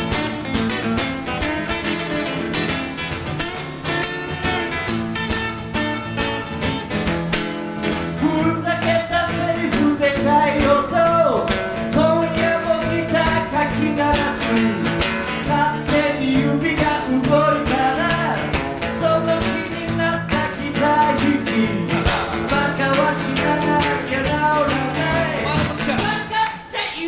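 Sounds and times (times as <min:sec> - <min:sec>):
acoustic guitar lead: 0:00.0 - 0:27.0
rhythm guitar strumming: 0:00.0 - 0:27.0.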